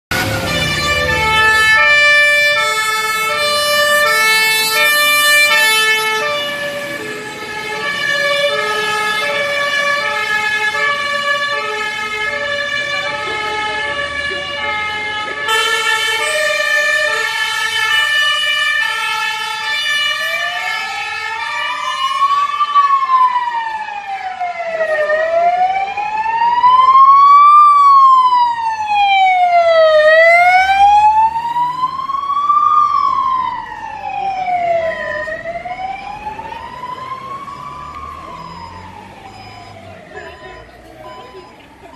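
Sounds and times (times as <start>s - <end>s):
two-tone sirens: 0.1s - 41.9s
wailing siren: 0.1s - 41.9s.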